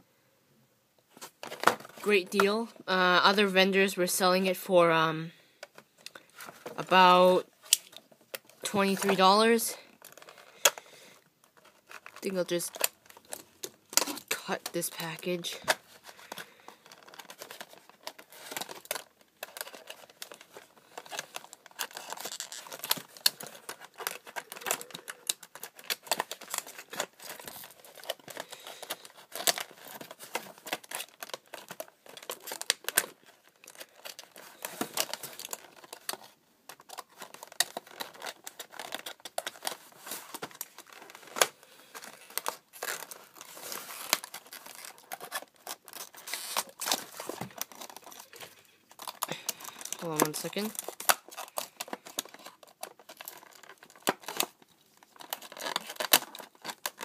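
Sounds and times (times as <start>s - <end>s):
plastic blister pack tearing: 6.1s - 57.0s.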